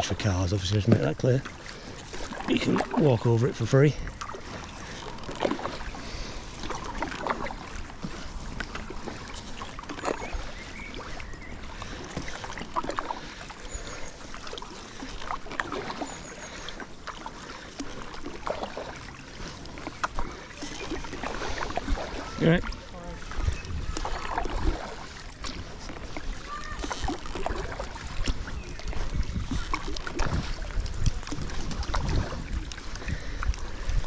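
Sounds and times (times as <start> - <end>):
kayak paddle splashing water: 0.0 - 34.0
water running off paddle: 0.0 - 34.0.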